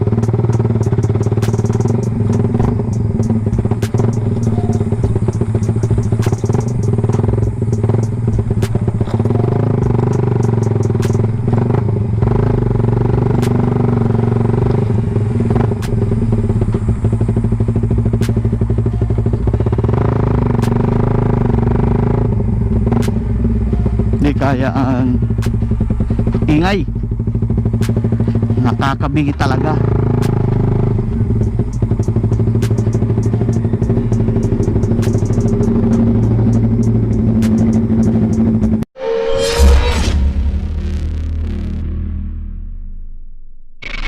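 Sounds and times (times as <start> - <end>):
sharp ticks: 0.0 - 38.8
motorcycle engine running: 0.0 - 38.9.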